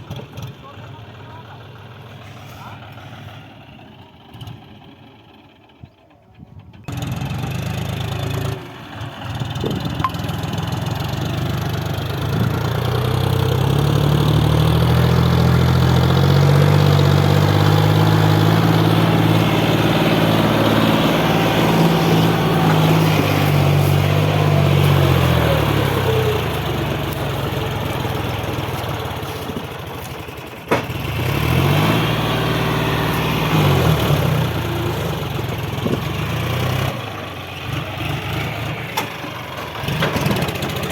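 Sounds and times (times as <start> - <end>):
diesel engine revving: 0.0 - 5.8, 6.9 - 40.9.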